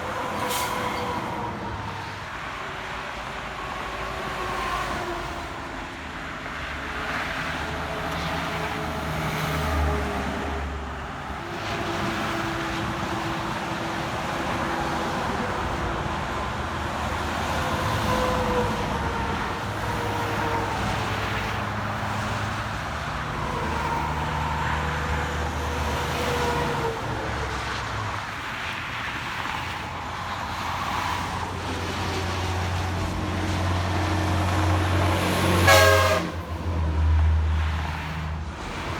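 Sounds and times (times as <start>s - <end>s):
highway traffic passing: 0.0s - 38.9s.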